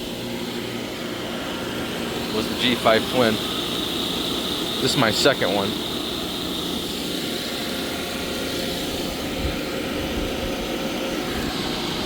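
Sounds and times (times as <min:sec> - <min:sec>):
refrigeration machinery drone: 0:00.0 - 0:12.0.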